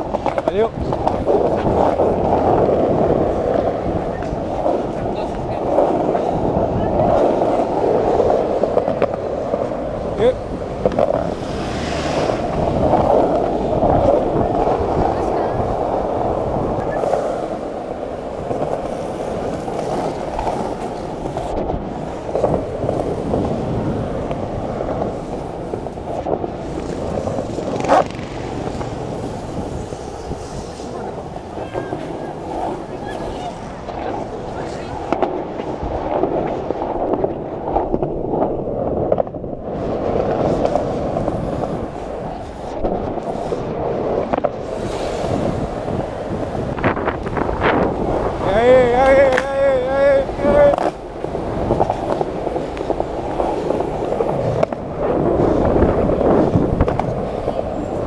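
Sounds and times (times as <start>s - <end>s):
skateboard wheels rolling: 0.0s - 58.0s.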